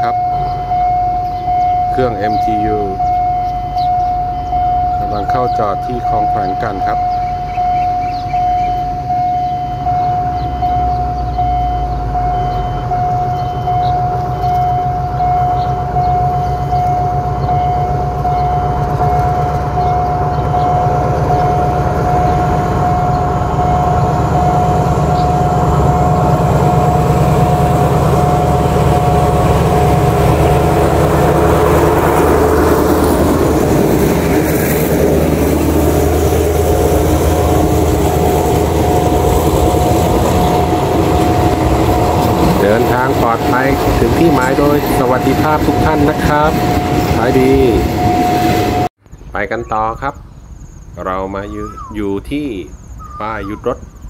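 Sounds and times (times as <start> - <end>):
level crossing warning alarm: 0.0 - 48.9
train carriages passing: 0.0 - 50.2
diesel locomotive rumble: 0.0 - 54.0.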